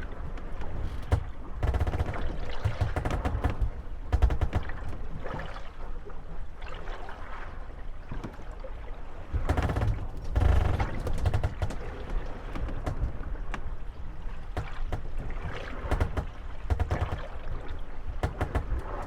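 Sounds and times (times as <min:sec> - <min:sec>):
wooden boats knocking and creaking: 0:00.0 - 0:06.1, 0:08.0 - 0:19.0
water lapping: 0:00.0 - 0:19.0.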